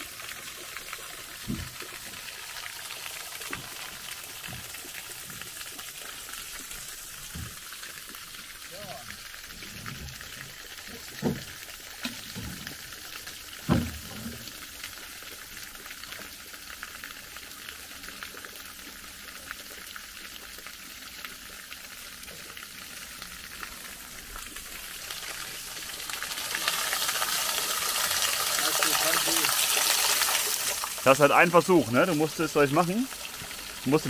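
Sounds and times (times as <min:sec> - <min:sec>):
stream trickling: 0:00.0 - 0:34.0.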